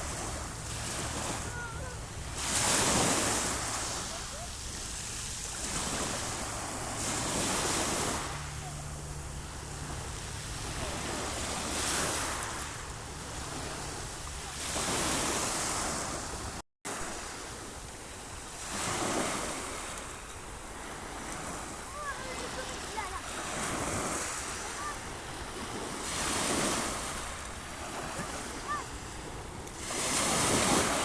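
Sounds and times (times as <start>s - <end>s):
sea waves breaking: 0.0s - 31.0s.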